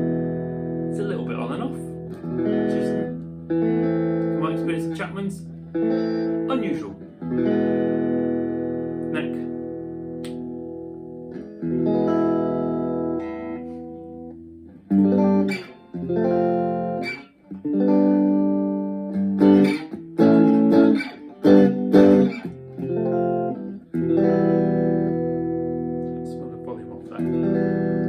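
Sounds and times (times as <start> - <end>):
electric guitar chords: 0.0 - 28.0.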